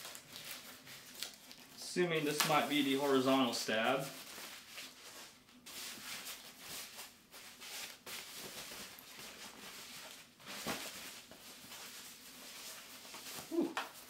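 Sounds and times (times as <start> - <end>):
packing material rustling: 0.0 - 14.0.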